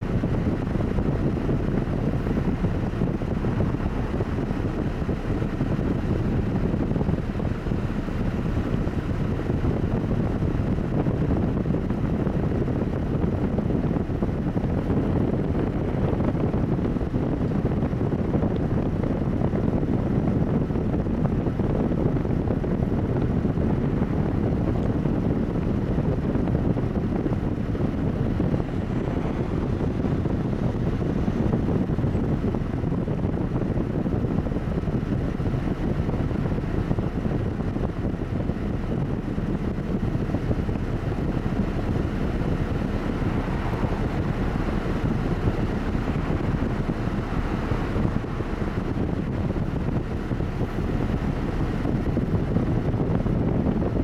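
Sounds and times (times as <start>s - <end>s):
road traffic rumble: 0.0s - 54.0s
wind buffeting microphone: 0.0s - 54.0s.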